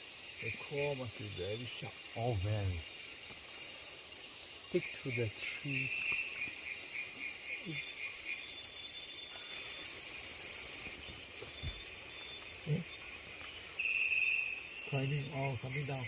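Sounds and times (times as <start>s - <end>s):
insects buzzing: 0.0s - 16.0s
rapid pulsing insect call: 0.0s - 16.0s.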